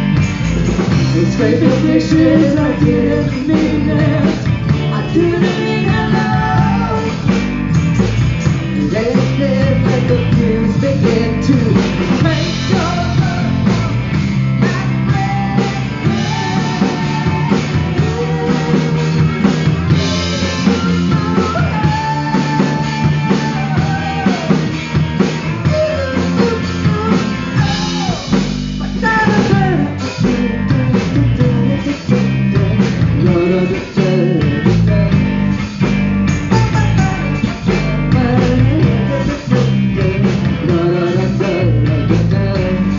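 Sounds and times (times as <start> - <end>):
bass guitar: 0.0 - 42.9
drum kit: 0.0 - 42.9
electric guitar: 0.0 - 42.9.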